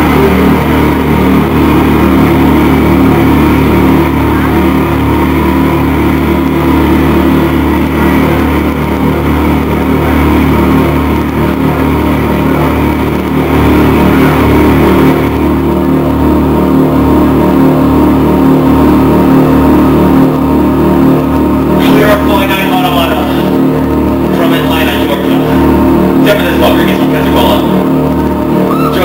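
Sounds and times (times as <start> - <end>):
distorted synth and bass drone: 0.0 - 29.0.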